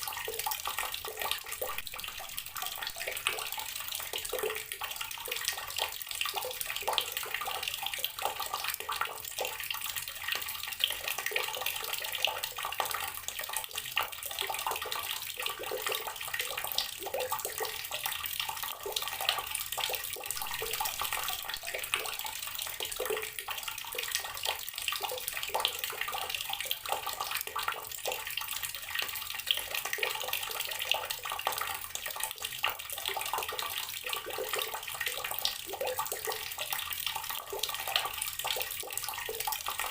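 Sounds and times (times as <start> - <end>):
tap water pouring into water: 0.0 - 39.9.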